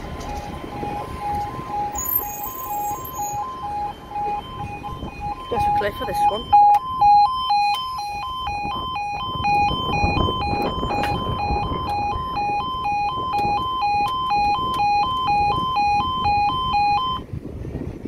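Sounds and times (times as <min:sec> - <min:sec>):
two-tone crossing alarm: 0:00.0 - 0:17.3.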